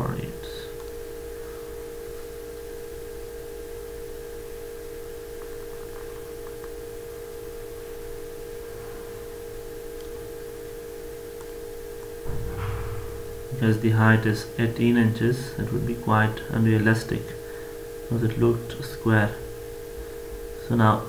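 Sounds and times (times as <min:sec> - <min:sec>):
electrical hum with steady tone: 0:00.0 - 0:21.0.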